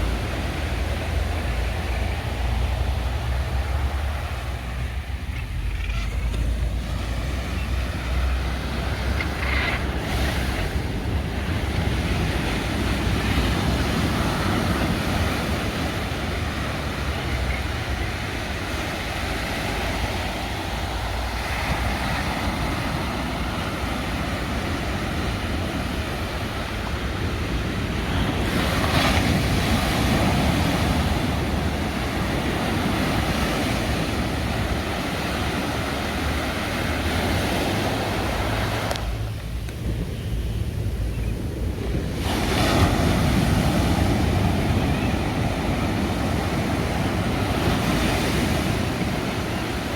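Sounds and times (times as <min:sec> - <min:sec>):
sea waves washing on shore: 0:00.0 - 0:49.9
wind rumbling on microphone: 0:00.0 - 0:49.9.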